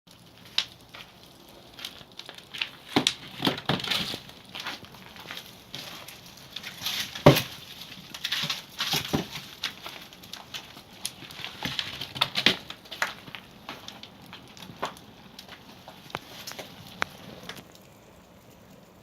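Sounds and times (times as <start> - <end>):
fire crackling: 0.1 - 19.0
firewood knocking: 0.4 - 17.8.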